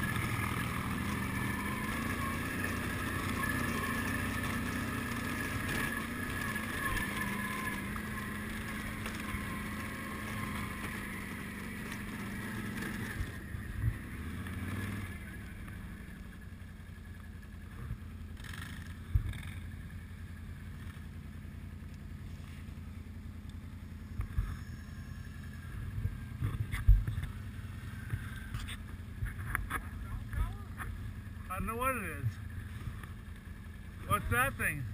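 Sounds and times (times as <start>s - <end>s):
atv engine running: 0.0s - 34.9s.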